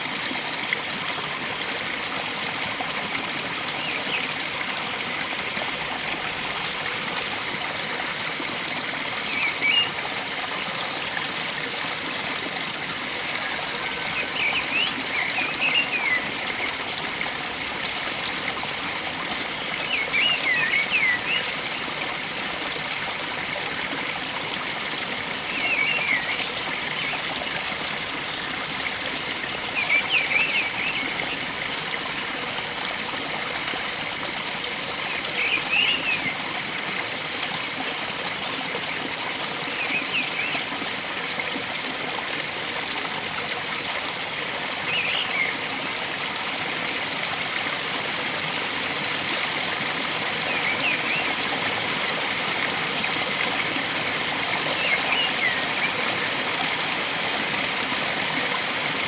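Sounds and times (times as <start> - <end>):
flowing stream: 0.0 - 59.0.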